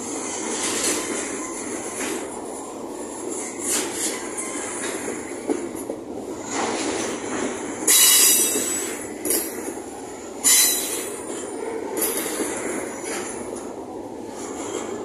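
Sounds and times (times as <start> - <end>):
train wagons rumbling past: 0.0 - 15.0.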